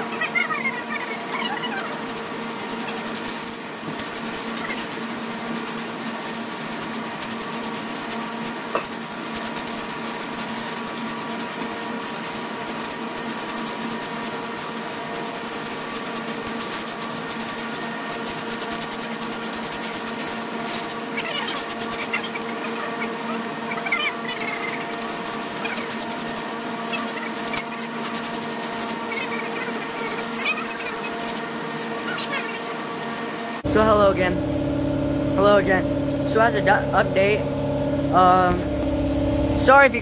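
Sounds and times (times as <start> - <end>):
machine hum with hiss: 0.0 - 40.0.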